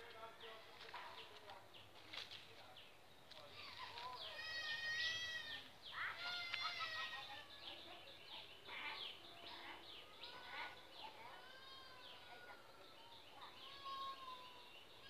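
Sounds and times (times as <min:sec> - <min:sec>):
birds calling and chattering: 0:00.0 - 0:15.0.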